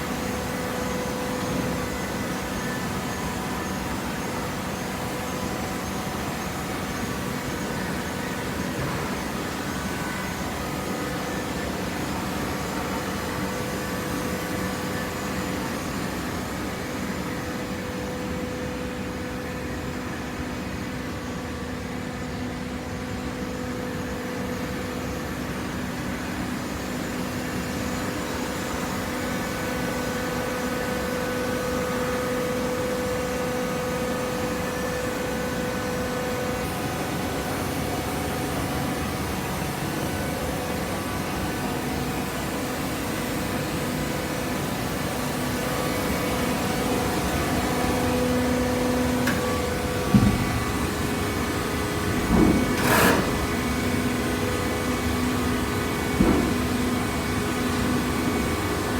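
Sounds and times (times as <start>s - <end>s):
baling press machine hum: 0.0s - 58.9s.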